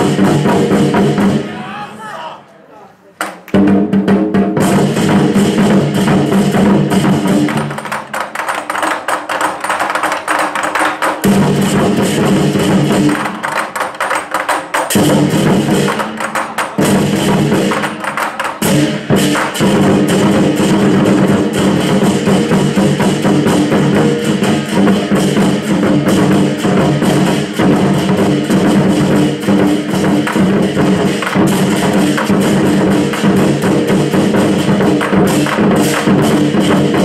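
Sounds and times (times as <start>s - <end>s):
barrel drums played with sticks: 0.0s - 1.6s, 3.2s - 37.0s.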